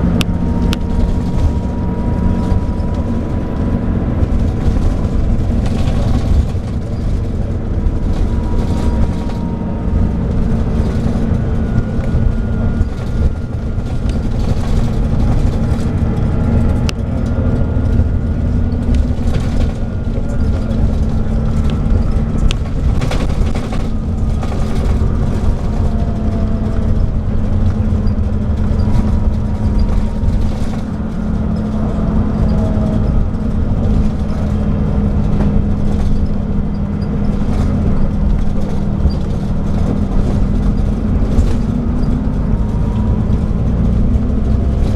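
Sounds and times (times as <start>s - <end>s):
bus diesel engine droning: 0.0s - 44.9s
knocks and rattles: 0.1s - 44.9s.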